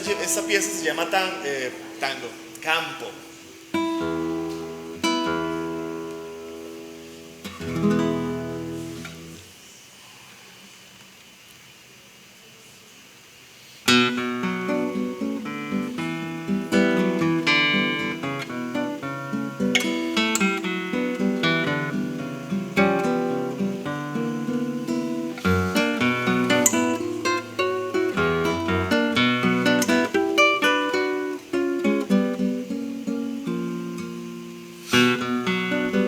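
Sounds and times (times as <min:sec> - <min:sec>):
acoustic guitar tango: 0:00.0 - 0:09.6, 0:13.8 - 0:36.0.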